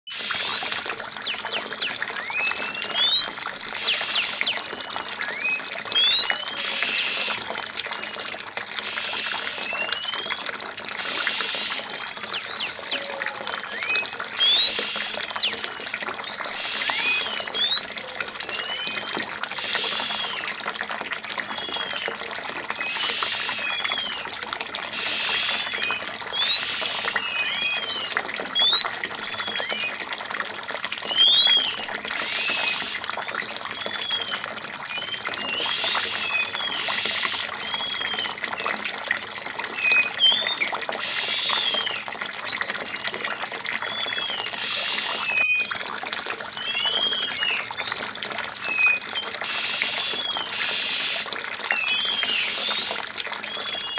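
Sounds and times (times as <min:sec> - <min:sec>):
birds whistling: 0:00.2 - 0:04.6, 0:05.3 - 0:15.6, 0:16.2 - 0:20.5, 0:21.5 - 0:22.2, 0:22.8 - 0:24.3, 0:24.9 - 0:30.0, 0:31.0 - 0:38.4, 0:39.5 - 0:42.8, 0:43.8 - 0:45.7, 0:46.6 - 0:53.9.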